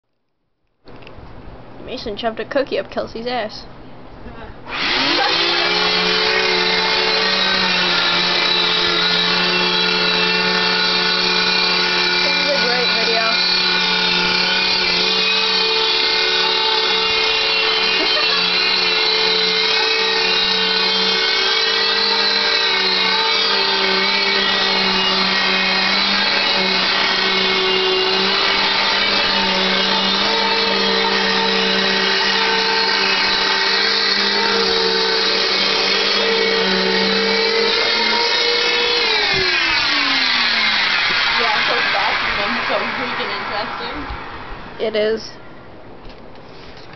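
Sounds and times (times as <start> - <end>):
vacuum cleaner motor whining: 4.7 - 45.0.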